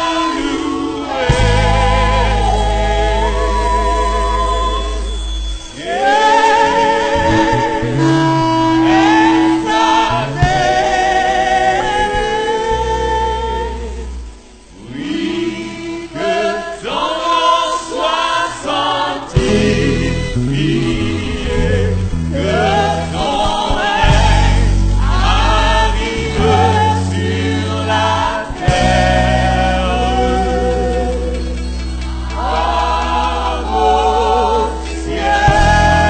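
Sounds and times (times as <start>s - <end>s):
sustained bass notes: 0.0s - 16.4s, 19.4s - 36.0s
choir singing worship song: 0.0s - 36.0s.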